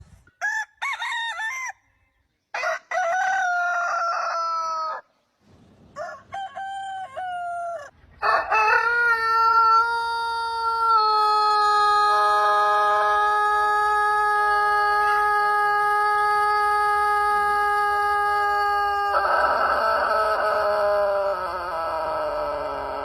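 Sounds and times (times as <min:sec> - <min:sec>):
roosters crowing: 0:02.6 - 0:05.1, 0:05.9 - 0:23.0.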